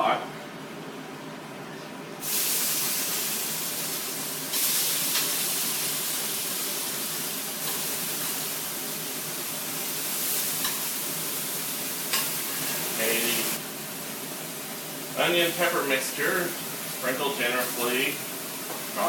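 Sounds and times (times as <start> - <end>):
chicken sizzling in skillet: 2.2 - 19.0.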